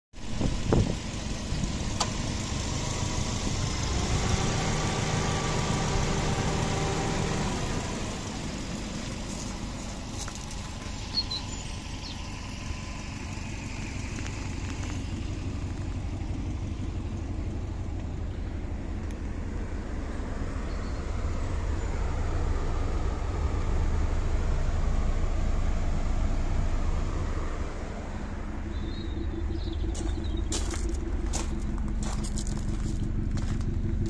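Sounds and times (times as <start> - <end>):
car engine idling: 0.2 - 34.0.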